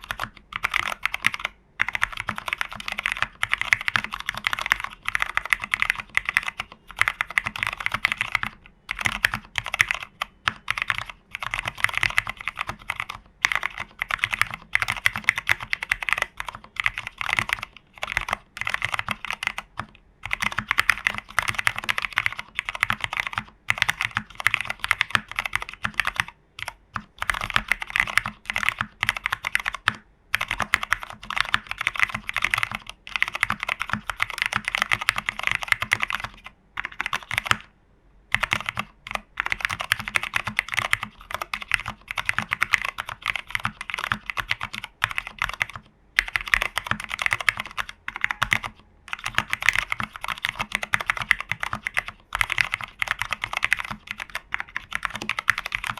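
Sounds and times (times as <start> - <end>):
mechanical keyboard typing: 0.0 - 37.7, 38.3 - 55.9.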